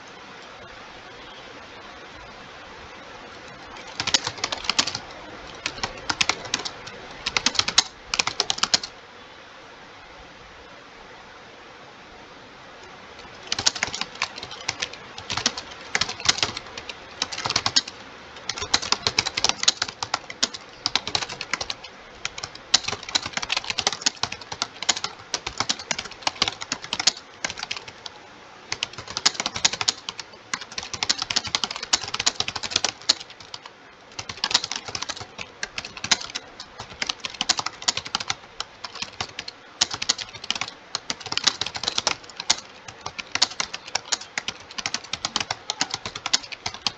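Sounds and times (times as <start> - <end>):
fast typing on a keyboard: 3.7 - 8.9, 13.2 - 46.9.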